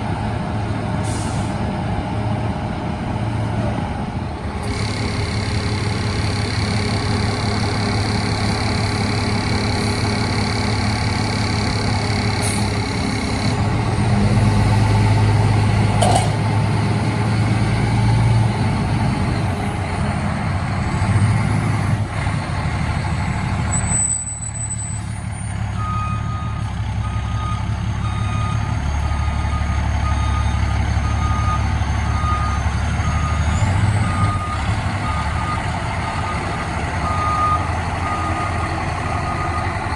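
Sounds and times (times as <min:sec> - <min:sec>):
fire truck engine running: 0:00.0 - 0:39.9.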